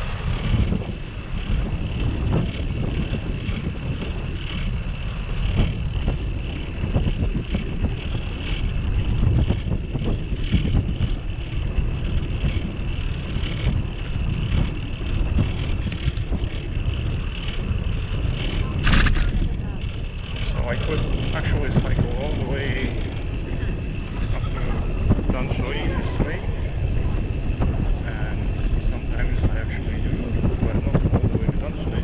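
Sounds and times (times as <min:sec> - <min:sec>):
bicycle tyres rolling on asphalt: 0:00.0 - 0:32.0
wind buffeting microphone: 0:00.0 - 0:32.0.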